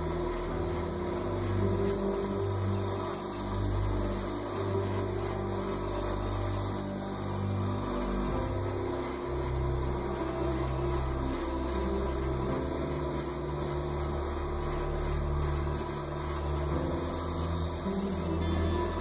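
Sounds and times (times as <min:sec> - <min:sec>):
slow music with low held notes: 0:00.0 - 0:19.0.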